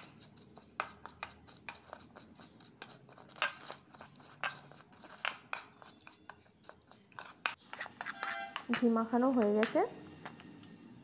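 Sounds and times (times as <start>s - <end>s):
spoon scraping metal bowl: 0.0s - 10.8s.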